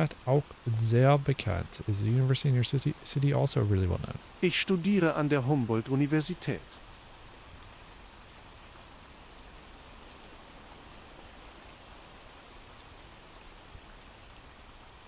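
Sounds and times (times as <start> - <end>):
soft rain: 0.0 - 15.0.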